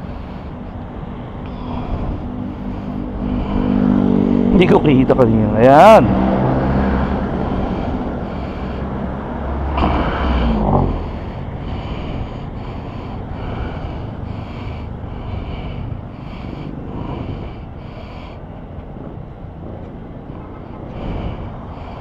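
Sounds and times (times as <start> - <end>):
street traffic rumbling: 0.0 - 22.0
vehicle passing: 0.0 - 22.0.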